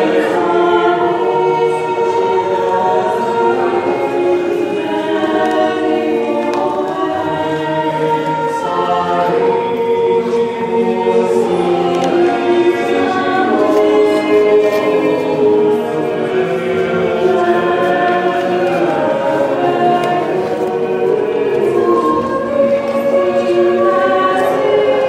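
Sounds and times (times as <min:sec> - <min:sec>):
mixed choir singing unaccompanied: 0:00.0 - 0:25.0.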